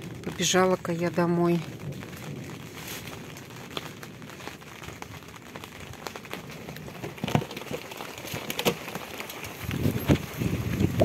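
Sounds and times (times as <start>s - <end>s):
raindrops pattering: 0.0s - 11.0s
soft rain hiss: 0.0s - 11.0s.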